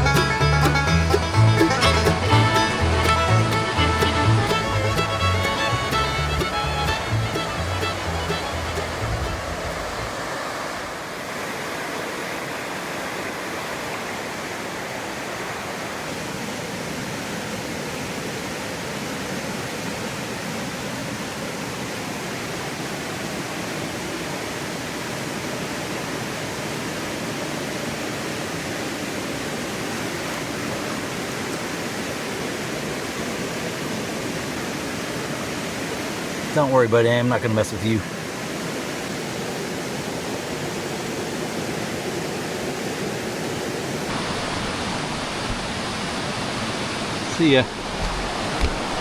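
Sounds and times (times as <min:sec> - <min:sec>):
creek water rushing over rocks: 0:00.0 - 0:49.0.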